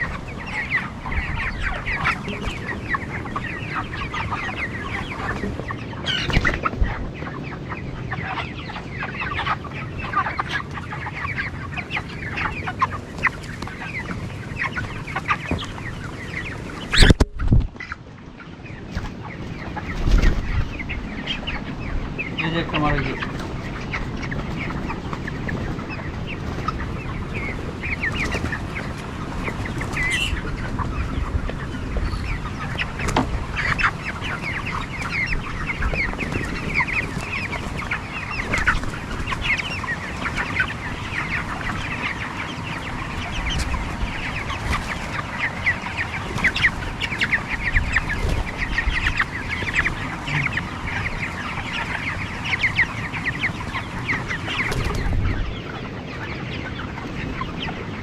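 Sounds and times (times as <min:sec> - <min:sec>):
chickens clucking and cheeping: 0:00.0 - 0:58.0.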